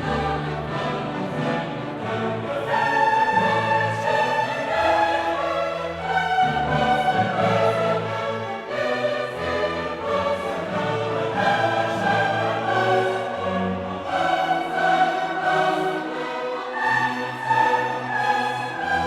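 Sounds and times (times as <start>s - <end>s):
choir singing: 0.0s - 19.0s
orchestra playing: 0.0s - 19.0s.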